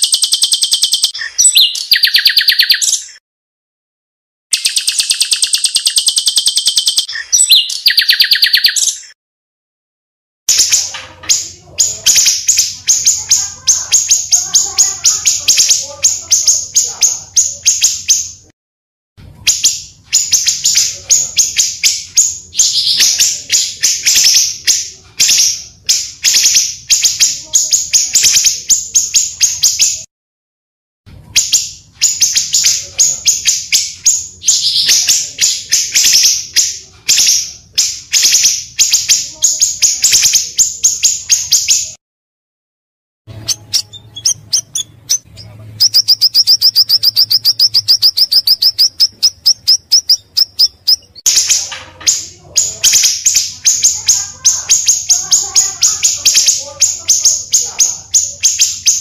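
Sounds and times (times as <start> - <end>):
bird singing high chirps: 0.0 - 3.2, 4.5 - 9.2, 10.5 - 18.5, 19.5 - 30.1, 31.4 - 42.0, 43.3 - 59.0.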